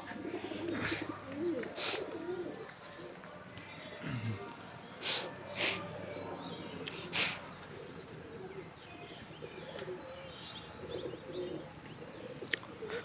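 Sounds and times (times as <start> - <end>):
pigeons cooing: 0.0 - 13.0
small birds chirping: 0.0 - 13.0.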